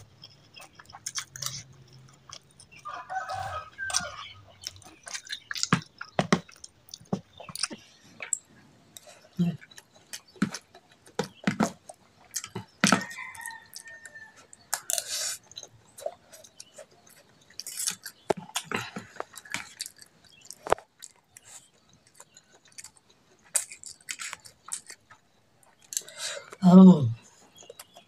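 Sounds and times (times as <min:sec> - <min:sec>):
chewing noodles: 0:00.0 - 0:26.6.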